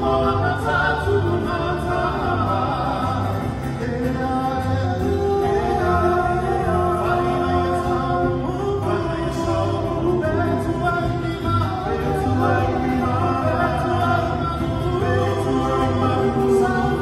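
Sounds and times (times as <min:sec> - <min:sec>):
guitar: 0:00.0 - 0:17.0
person singing: 0:00.0 - 0:17.0.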